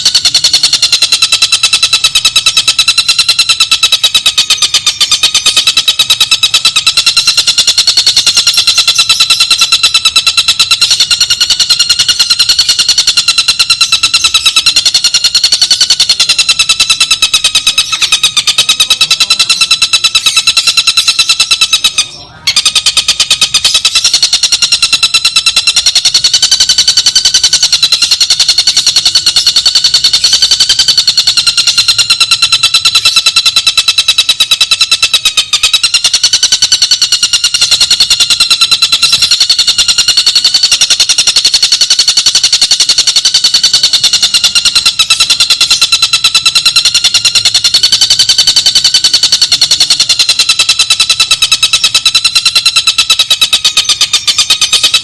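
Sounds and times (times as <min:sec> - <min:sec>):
bird trilling rapidly: 0:00.0 - 0:40.8, 0:42.5 - 0:55.0.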